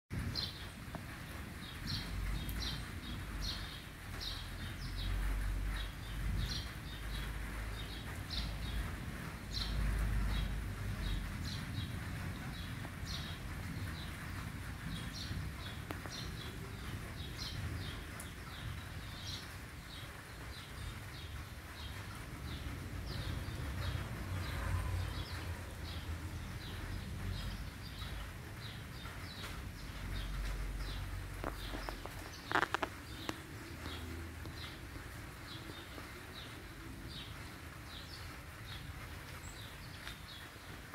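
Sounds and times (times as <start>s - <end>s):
birds chirping: 1.6s - 40.9s.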